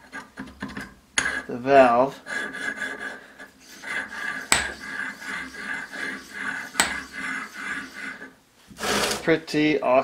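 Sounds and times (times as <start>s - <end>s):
metal-on-metal rubbing: 0.0s - 9.3s.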